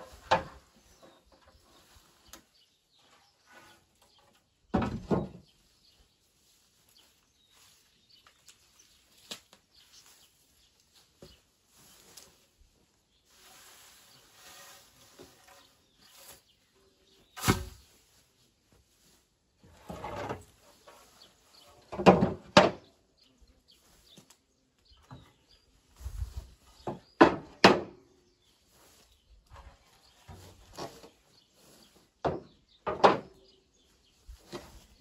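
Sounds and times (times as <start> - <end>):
scraping and shuffling: 0.0 - 22.4, 28.2 - 35.0.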